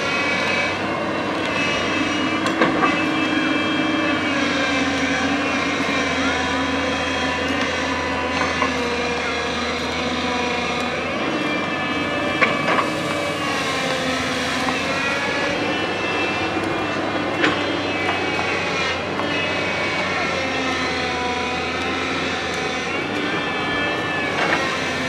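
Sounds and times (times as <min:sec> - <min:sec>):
excavator diesel engine under load: 0:00.0 - 0:25.0
hydraulics working: 0:00.0 - 0:25.0.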